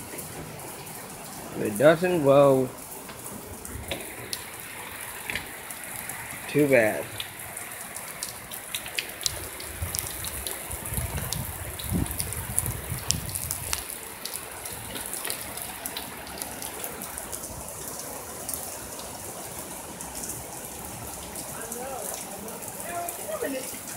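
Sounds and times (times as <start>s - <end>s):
heavy rain hissing: 0.0s - 23.9s.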